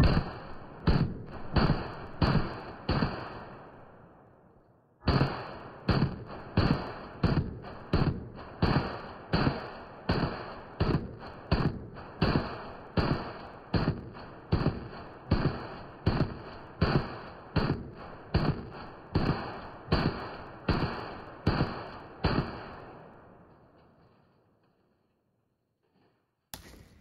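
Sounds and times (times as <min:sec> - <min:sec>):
rifle shots with echo: 0:00.0 - 0:04.3, 0:05.0 - 0:23.6.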